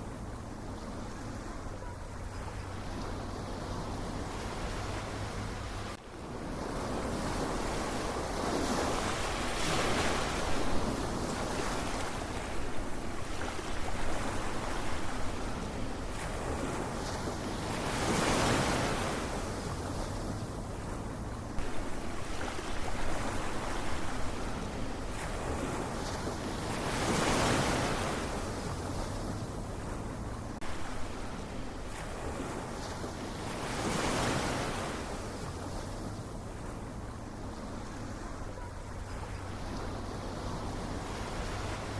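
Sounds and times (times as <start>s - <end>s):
ocean waves washing in: 0.0s - 41.9s.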